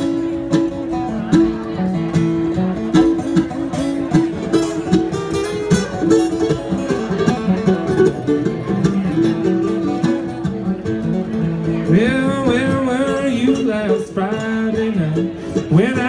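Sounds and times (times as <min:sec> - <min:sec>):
acoustic guitar: 0:00.0 - 0:16.0
mandolin: 0:00.0 - 0:16.0.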